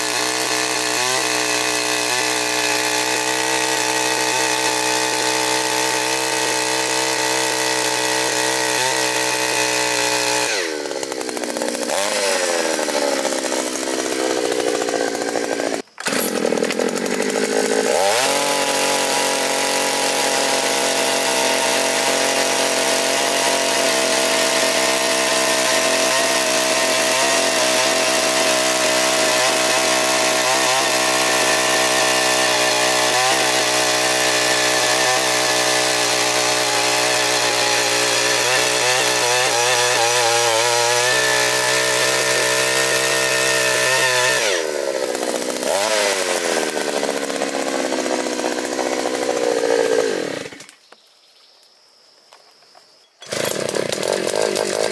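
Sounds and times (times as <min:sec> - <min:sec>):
earth auger engine running: 0:00.0 - 0:50.6, 0:53.2 - 0:54.9.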